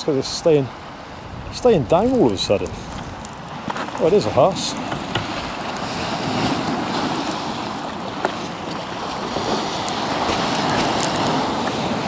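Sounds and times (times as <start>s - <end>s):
wind buffeting microphone: 0.7s - 12.0s
surf breaking on boulders: 1.5s - 12.0s.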